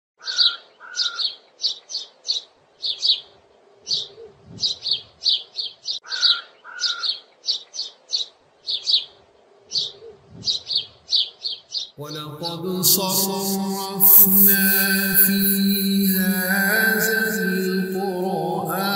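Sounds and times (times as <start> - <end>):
birds chirping: 0.2 - 18.9.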